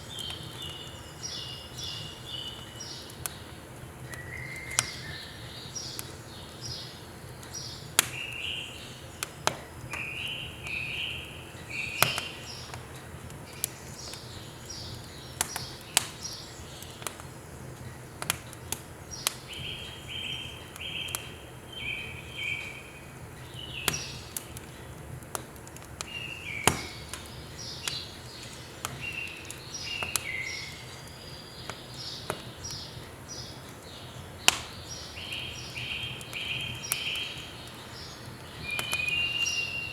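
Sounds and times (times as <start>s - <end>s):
songbird singing: 0.0s - 18.2s, 19.1s - 24.6s, 26.0s - 39.9s
firewood crackling and popping: 0.0s - 39.9s.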